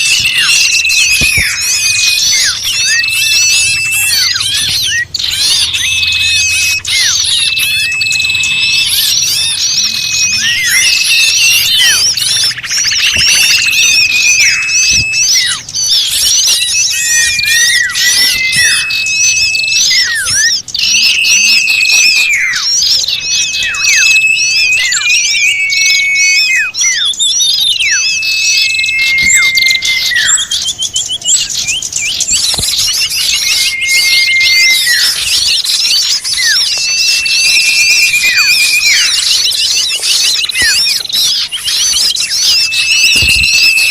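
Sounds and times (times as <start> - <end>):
whistled bird note dropping: 0.0 - 30.6, 31.4 - 43.9
small birds chattering chorus: 0.0 - 43.9.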